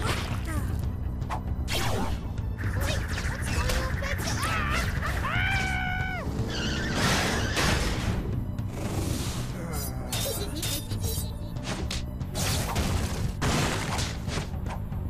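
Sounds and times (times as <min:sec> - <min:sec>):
cartoon background music: 0:00.0 - 0:15.0.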